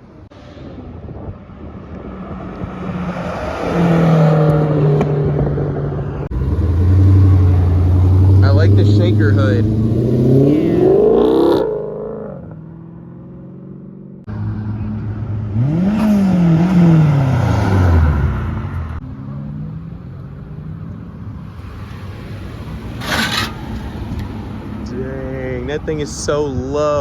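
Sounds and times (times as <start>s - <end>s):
car engine revving: 1.7s - 26.2s.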